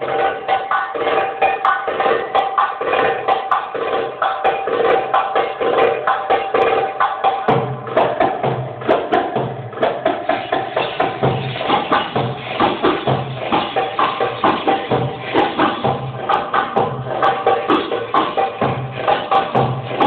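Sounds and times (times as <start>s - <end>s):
fast percussion beat: 0.0s - 20.0s.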